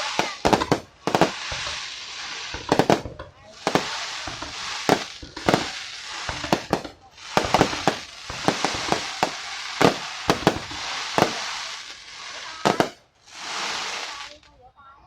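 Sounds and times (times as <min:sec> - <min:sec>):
fireworks bangs: 0:00.0 - 0:14.5
crackling hiss: 0:00.0 - 0:14.6.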